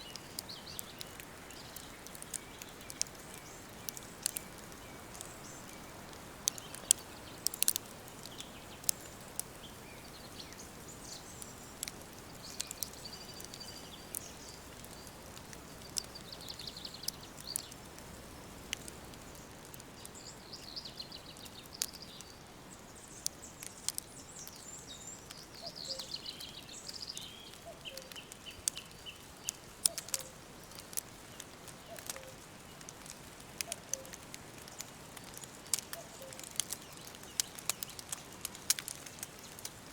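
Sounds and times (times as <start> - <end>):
songbirds singing: 0.0 - 39.9
steady faint hiss: 0.0 - 39.9.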